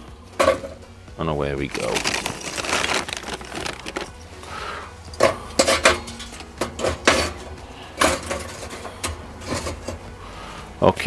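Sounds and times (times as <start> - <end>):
charcoal clinking into metal starter: 0.3 - 0.9, 1.5 - 10.1.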